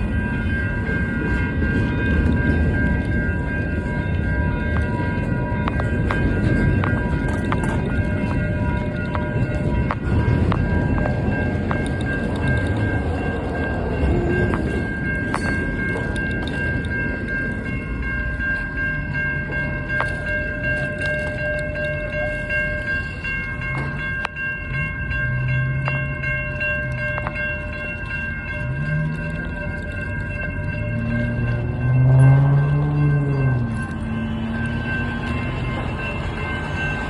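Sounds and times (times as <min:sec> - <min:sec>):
freight train rumbling past: 0:00.0 - 0:27.5, 0:28.4 - 0:37.0
wheels clicking over rail joints: 0:00.0 - 0:37.0.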